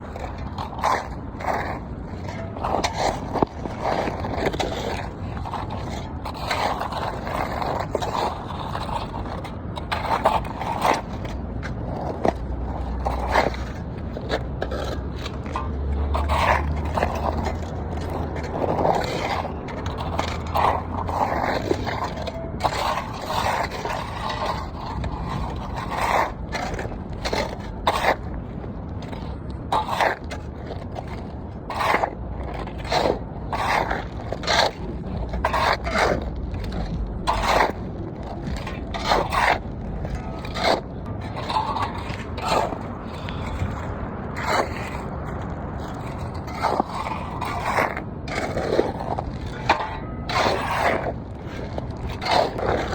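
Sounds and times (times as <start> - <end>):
scraping strokes: 0.0 - 52.9.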